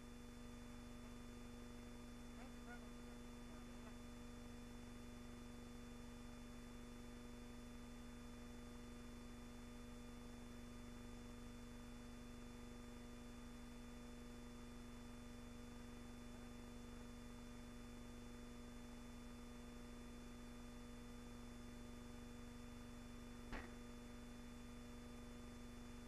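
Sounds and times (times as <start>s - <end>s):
steady hum with hiss: 0.0s - 26.0s.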